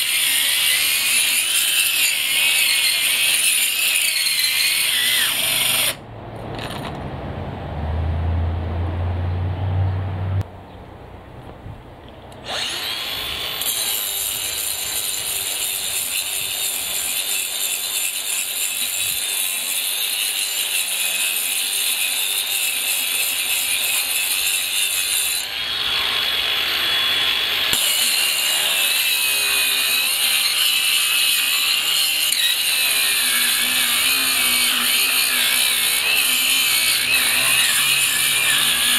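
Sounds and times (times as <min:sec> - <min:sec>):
angle grinder cutting concrete: 0:00.0 - 0:06.0, 0:12.4 - 0:38.9.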